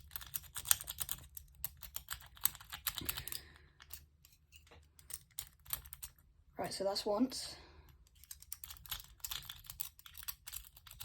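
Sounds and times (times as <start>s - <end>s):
lock pick clicking and scraping: 0.0s - 6.3s, 7.9s - 11.0s.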